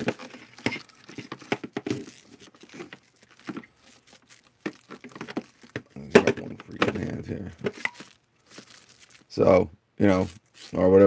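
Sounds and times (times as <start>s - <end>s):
plastic vacuum hose rustling: 0.0s - 11.0s.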